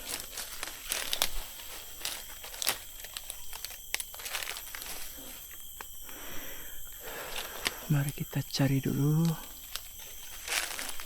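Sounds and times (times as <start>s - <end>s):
dry leaves crunching underfoot: 0.0s - 5.9s, 7.1s - 11.0s.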